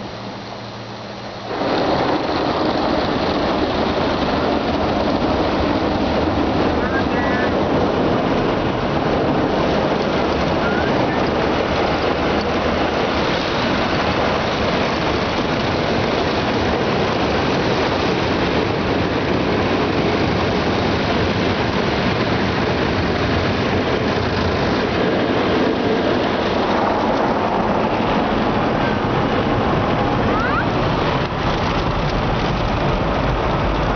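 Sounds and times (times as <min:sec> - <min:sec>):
water spraying: 0:00.0 - 0:32.8.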